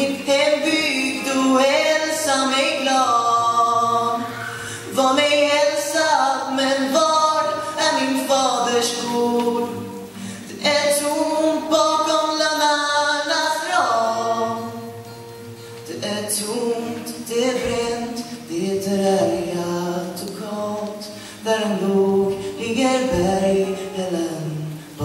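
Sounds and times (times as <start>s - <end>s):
man singing slow song: 0.0s - 15.2s, 15.8s - 25.0s
acoustic guitar: 0.0s - 25.0s.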